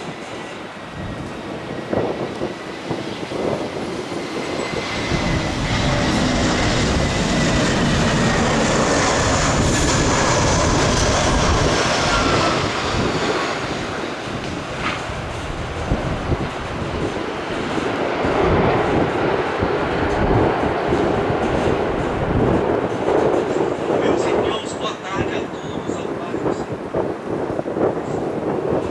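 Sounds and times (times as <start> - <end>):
jet engines whining: 0.0 - 28.9.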